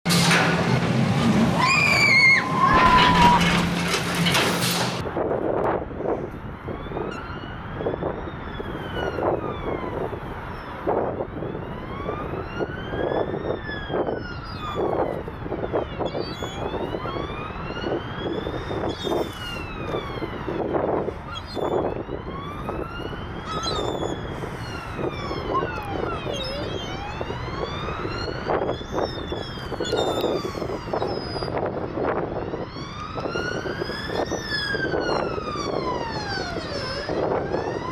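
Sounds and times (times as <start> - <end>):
emergency vehicle sirens wailing: 0.1 - 37.9
street background noise: 0.1 - 37.9.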